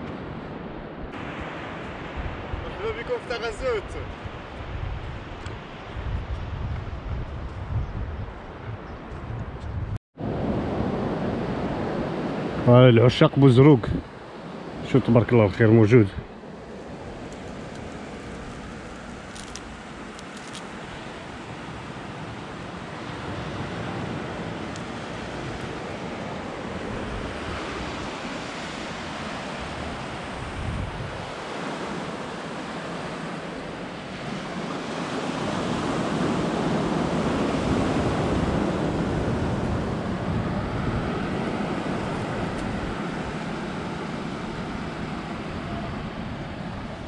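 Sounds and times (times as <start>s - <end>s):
wind on microphone: 0.0s - 2.8s, 3.9s - 12.6s, 16.1s - 47.0s
surf washing onto beach: 1.2s - 6.0s, 10.2s - 47.0s.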